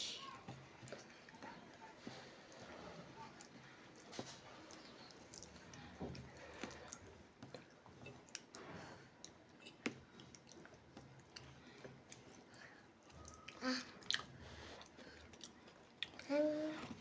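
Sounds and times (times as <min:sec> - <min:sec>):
chewing food: 0:00.2 - 0:17.0.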